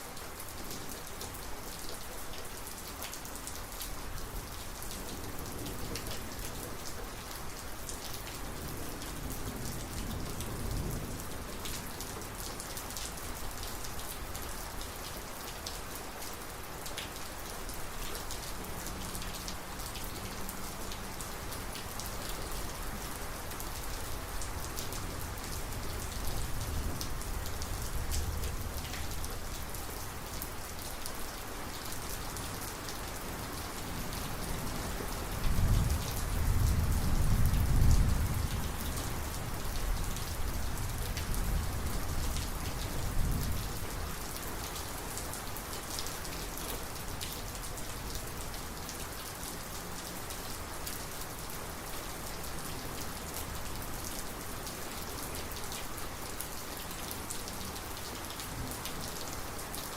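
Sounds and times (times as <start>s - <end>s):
rain falling steadily: 0.0s - 59.9s.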